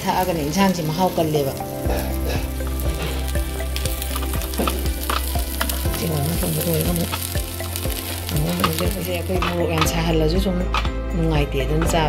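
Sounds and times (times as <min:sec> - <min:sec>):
fish sizzling on hot plate: 0:00.0 - 0:10.1.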